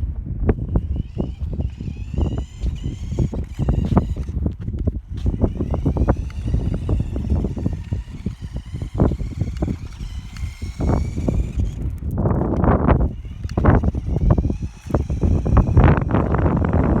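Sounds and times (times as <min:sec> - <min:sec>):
wind on microphone: 0:00.0 - 0:17.0
electric motor whining: 0:00.3 - 0:17.0
wheels rattling on rough ground: 0:00.4 - 0:17.0.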